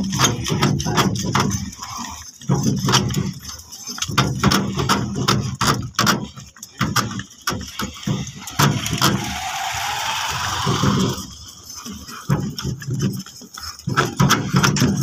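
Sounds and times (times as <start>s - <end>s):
wooden cart clacking and knocking: 0.0s - 15.0s.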